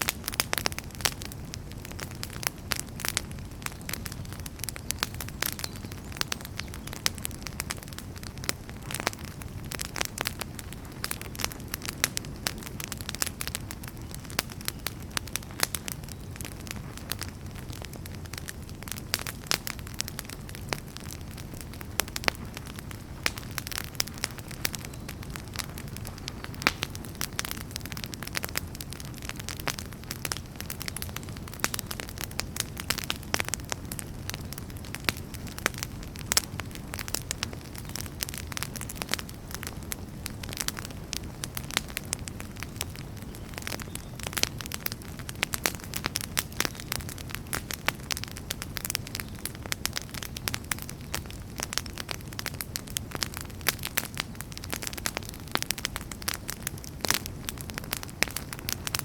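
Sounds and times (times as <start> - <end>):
burning logs crackling and popping: 0.0 - 59.0
low rumble of flame: 0.0 - 59.0.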